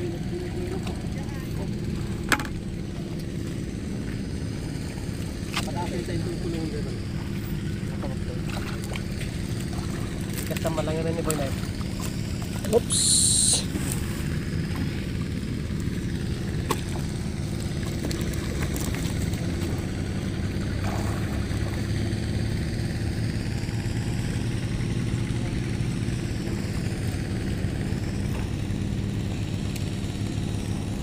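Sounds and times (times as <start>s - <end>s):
small engine running steadily: 0.0s - 31.0s.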